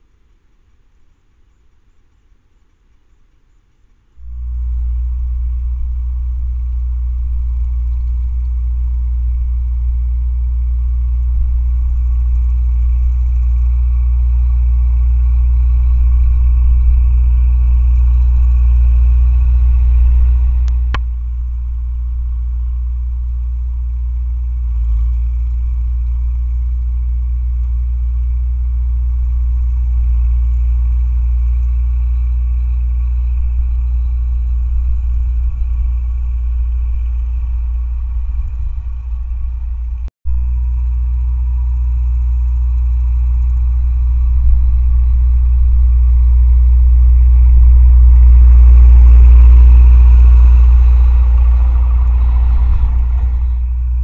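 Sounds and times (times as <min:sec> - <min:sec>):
tractor engine droning: 0:04.1 - 0:54.0.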